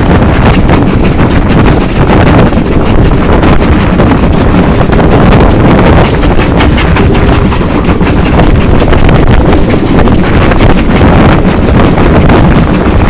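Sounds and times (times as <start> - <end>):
steam locomotive exhaust beats: 0.0 - 13.0
wind buffeting microphone: 0.0 - 13.0.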